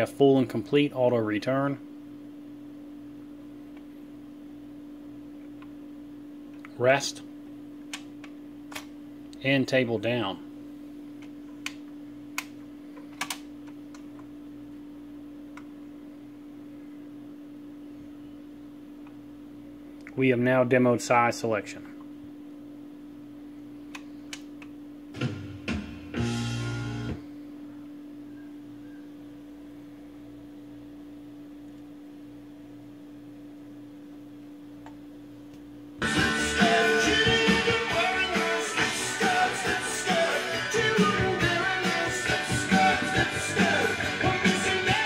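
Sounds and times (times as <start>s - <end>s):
turntable running with low hum: 0.0s - 45.0s.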